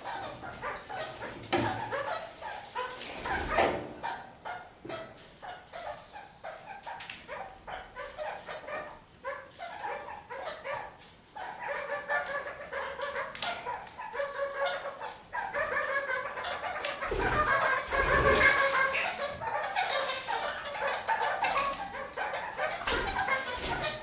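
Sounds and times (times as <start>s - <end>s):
parakeets chattering: 0.0s - 24.0s.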